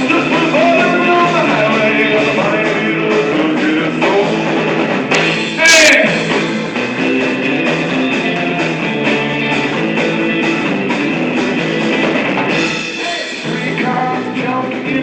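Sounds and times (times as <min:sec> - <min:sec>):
guitar playing rhythmic chords: 0:00.0 - 0:15.0.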